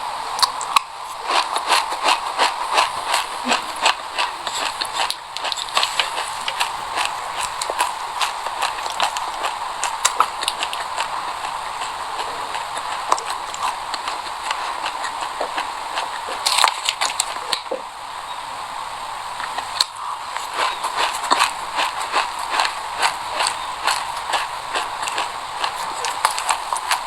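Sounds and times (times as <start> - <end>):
chewing crunchy seeds: 0.2 - 17.9, 19.4 - 27.0.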